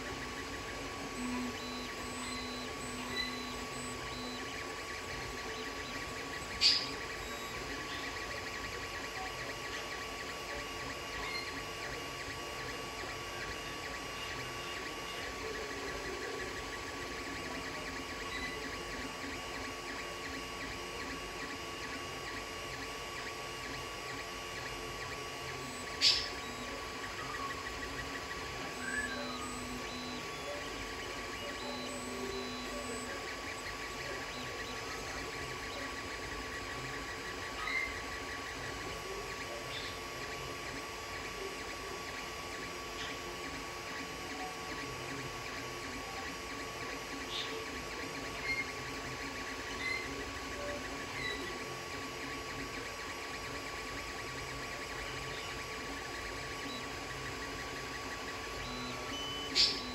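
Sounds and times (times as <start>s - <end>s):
cooling fans humming: 0.0s - 59.9s
stepper motor tones: 0.0s - 59.9s.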